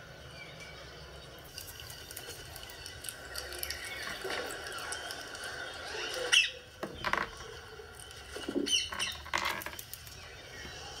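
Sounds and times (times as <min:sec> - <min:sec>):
parakeet chirping and squawking: 0:01.5 - 0:11.0.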